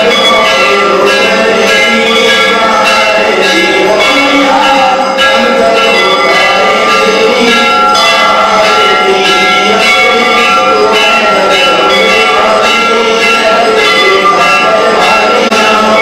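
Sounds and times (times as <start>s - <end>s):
temple bells ringing: 0.0s - 16.0s.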